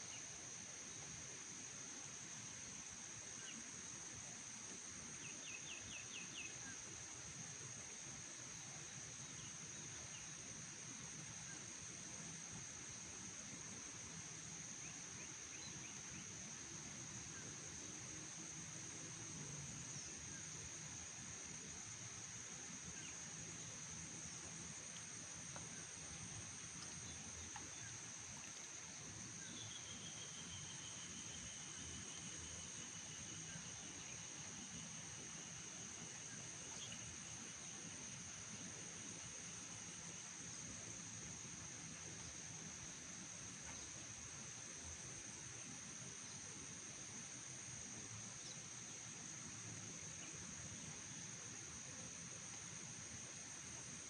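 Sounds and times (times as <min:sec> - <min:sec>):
insects chirring high: 0:00.0 - 0:54.0
low hiss: 0:00.0 - 0:54.0
lower insect tone: 0:00.0 - 0:54.0.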